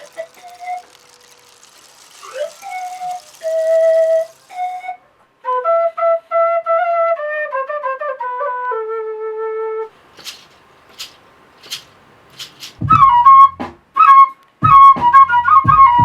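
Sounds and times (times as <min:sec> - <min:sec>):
flute playing slow melody: 0:00.0 - 0:09.9, 0:12.9 - 0:16.0.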